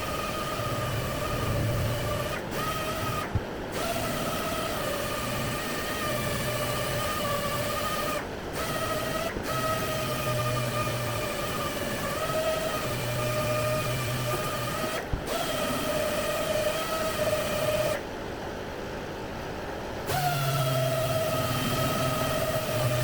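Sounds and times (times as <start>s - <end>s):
power tool whining: 0.0s - 18.0s, 20.1s - 23.0s.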